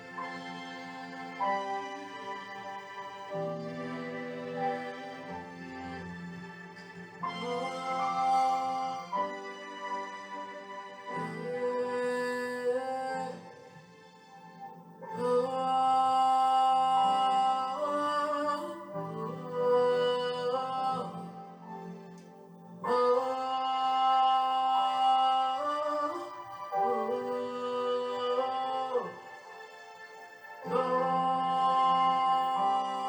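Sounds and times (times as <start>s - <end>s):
slow worship music: 0.0s - 33.0s.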